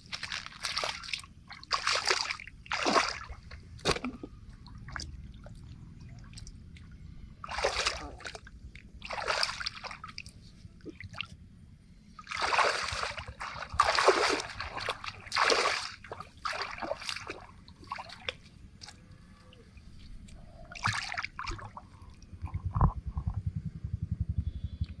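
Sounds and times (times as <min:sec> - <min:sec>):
water splashing and sloshing: 0:00.0 - 0:11.5, 0:12.1 - 0:23.0
low pulsing rumble: 0:00.0 - 0:25.0.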